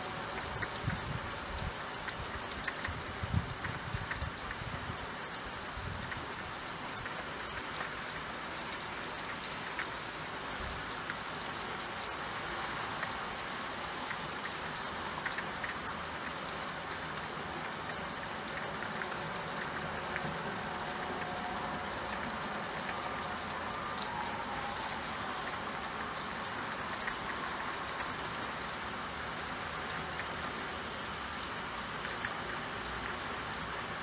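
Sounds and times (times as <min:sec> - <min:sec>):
steady rain with ticking drops: 0:00.0 - 0:34.0.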